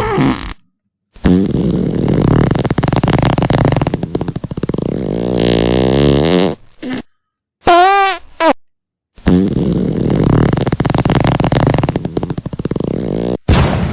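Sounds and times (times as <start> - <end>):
sputtering fart sounds: 0.0 - 7.1, 9.2 - 13.5.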